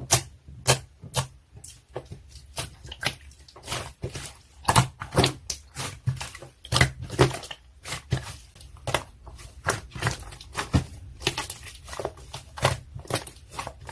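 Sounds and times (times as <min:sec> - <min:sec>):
slime squished by hand: 0:00.0 - 0:13.9.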